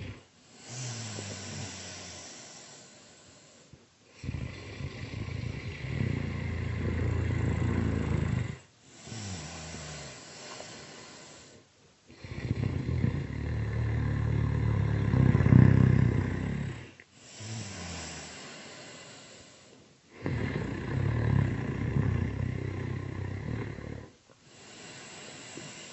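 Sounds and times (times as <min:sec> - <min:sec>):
quiet breath: 0:00.0 - 0:25.9
rattling snores: 0:00.0 - 0:25.9.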